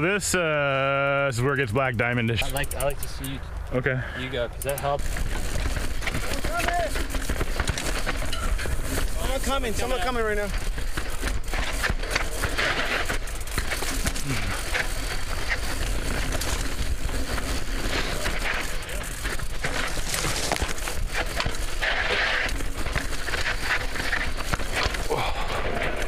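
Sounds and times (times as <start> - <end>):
bike rattling over bumps: 2.0 - 3.3, 4.6 - 26.0
bike tyres crunching on dirt: 4.3 - 26.0.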